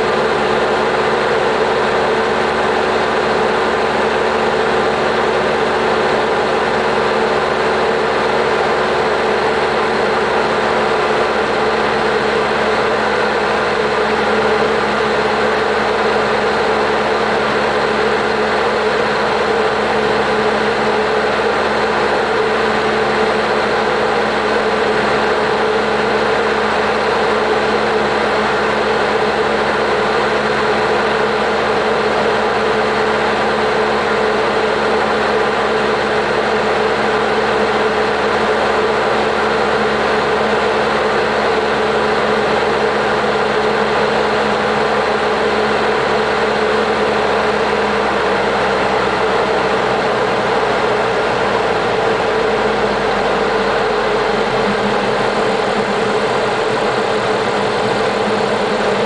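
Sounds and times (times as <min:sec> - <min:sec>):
airplane engine drone in cockpit: 0:00.0 - 0:59.0.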